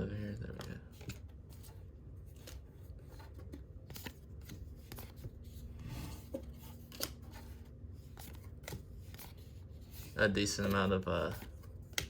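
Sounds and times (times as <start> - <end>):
cards handled on tabletop: 0.5 - 12.0.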